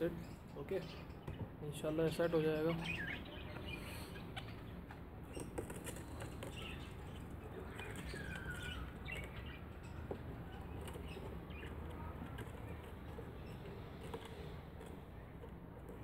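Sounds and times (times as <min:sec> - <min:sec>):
budgerigars chirping: 0:00.2 - 0:14.5.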